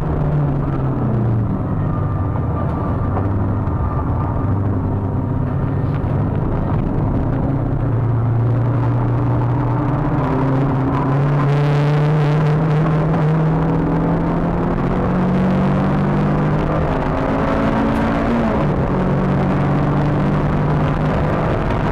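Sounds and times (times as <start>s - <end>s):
car engine revving under load: 0.0s - 21.9s
wind noise: 0.0s - 21.9s.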